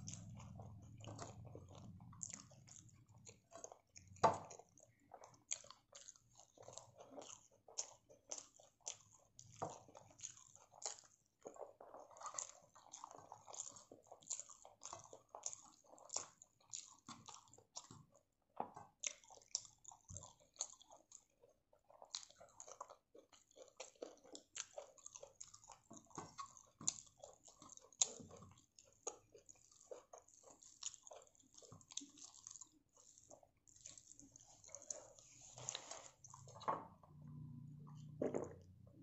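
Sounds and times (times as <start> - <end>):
wet chewing clicks: 0.0 - 39.0.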